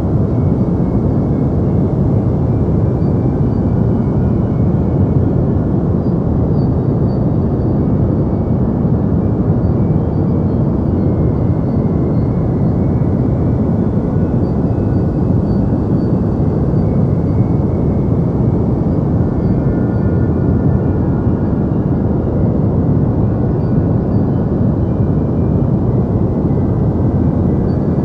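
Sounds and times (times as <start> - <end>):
deep white noise rumble: 0.0 - 28.0.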